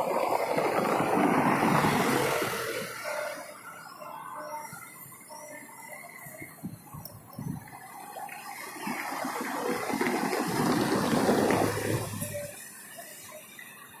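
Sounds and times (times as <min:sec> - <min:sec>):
diesel coach passing: 0:00.0 - 0:14.0.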